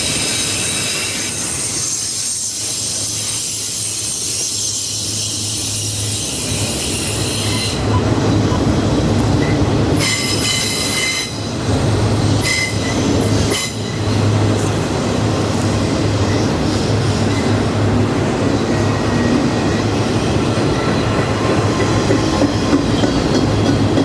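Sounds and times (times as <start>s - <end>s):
railroad cars rumbling past: 0.0s - 24.0s
wheel flanges squealing: 0.7s - 23.2s.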